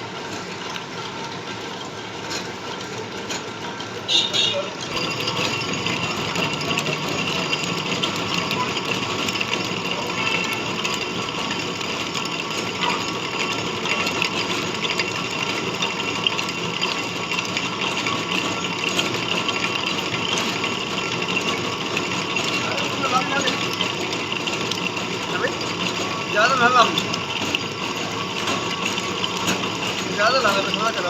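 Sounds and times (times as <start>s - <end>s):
metal lathe whirring: 0.0s - 31.0s.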